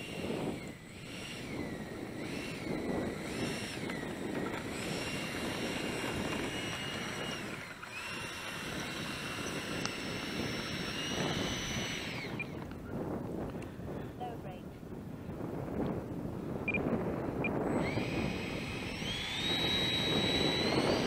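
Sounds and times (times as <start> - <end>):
electric ducted fan whining: 0.0 - 21.0.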